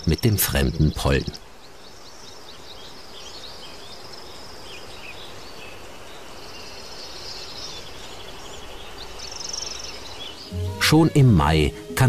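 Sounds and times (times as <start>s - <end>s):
bird chirps and trills: 0.0s - 12.0s
faint steady hiss: 0.0s - 12.0s.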